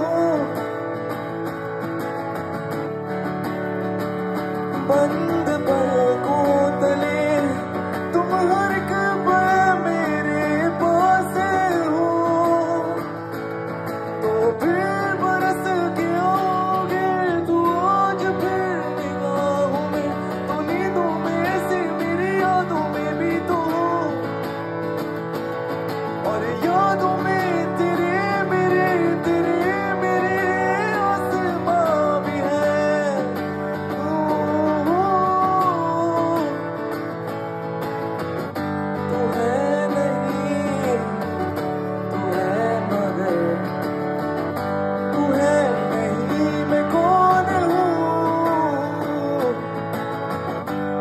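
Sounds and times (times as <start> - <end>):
person singing: 0.0 - 1.1, 4.7 - 13.2, 14.1 - 24.6, 26.1 - 36.9, 39.0 - 44.2, 45.0 - 49.9
acoustic guitar strumming: 0.0 - 51.0.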